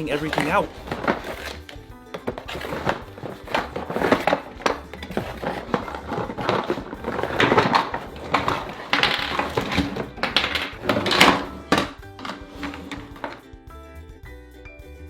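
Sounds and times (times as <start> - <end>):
packaging rustling: 0.0 - 13.4
plastic toy pieces clattering: 0.0 - 13.4
background music: 0.0 - 15.0.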